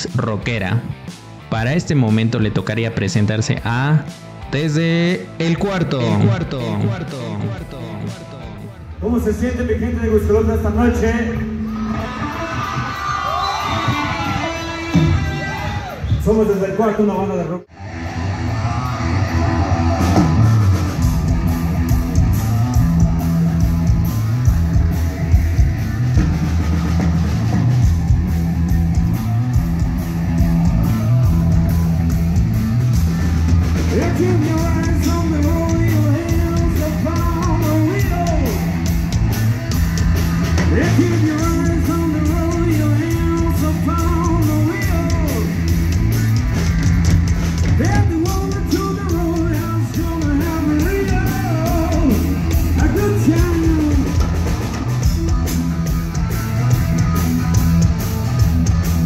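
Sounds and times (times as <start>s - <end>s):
melody line over band: 0.0s - 15.6s, 19.9s - 59.0s
live rock band playing: 0.0s - 16.7s, 17.8s - 59.0s.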